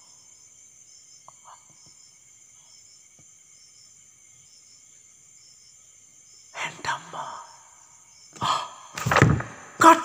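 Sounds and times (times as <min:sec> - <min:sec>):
faint steady high hiss: 0:00.0 - 0:10.0.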